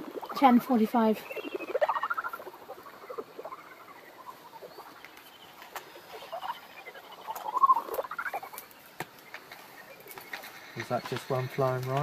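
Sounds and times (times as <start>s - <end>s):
bat detector chirping pulses: 0.0s - 11.4s.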